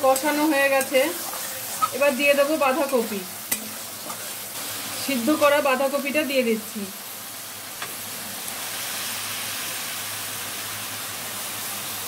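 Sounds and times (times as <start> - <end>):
cabbage sizzling in hot oil: 0.0 - 12.0.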